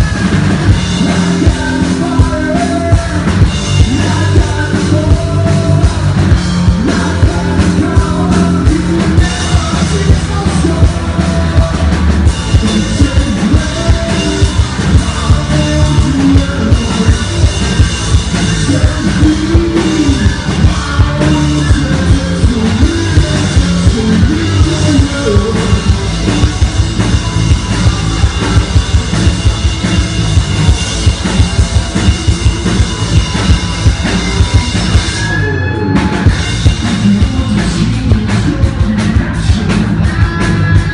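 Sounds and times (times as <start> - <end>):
drum kit beat: 0.0 - 40.9
hard rock band playing: 0.0 - 40.9.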